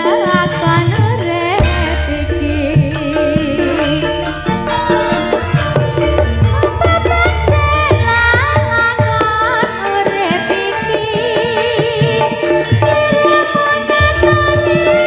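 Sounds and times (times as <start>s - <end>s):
hand drums beating: 0.0s - 15.0s
wavering melodic lead: 1.4s - 15.0s.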